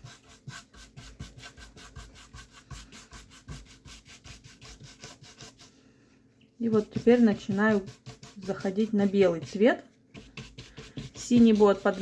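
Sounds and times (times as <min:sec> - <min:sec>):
paintbrush scrubbing on paper: 0:00.0 - 0:05.8, 0:06.6 - 0:12.0.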